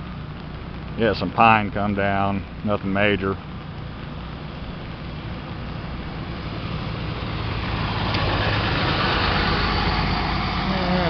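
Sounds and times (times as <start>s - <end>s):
truck engine approaching: 0.0s - 11.0s
tyres hissing on wet road: 0.0s - 11.0s.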